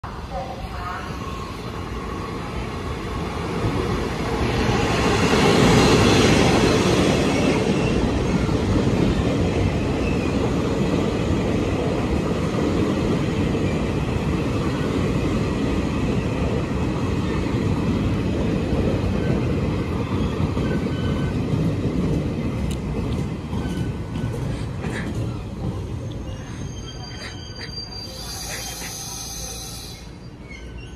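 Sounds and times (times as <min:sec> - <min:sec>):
train rumbling past on rails: 0:00.0 - 0:30.9.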